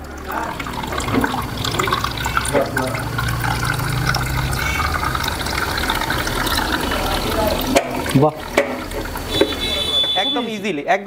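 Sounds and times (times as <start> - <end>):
juice pouring into plastic cup: 0.0 - 9.9.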